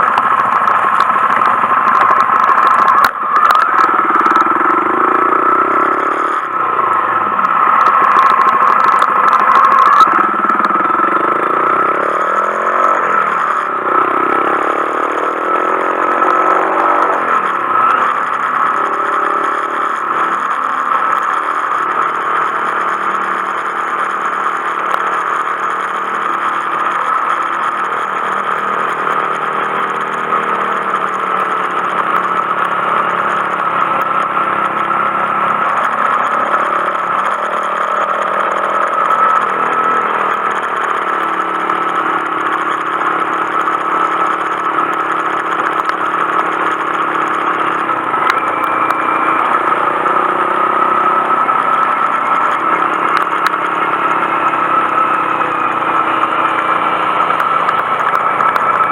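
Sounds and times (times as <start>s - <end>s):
motorcycle engine riding along: 0.0s - 58.9s.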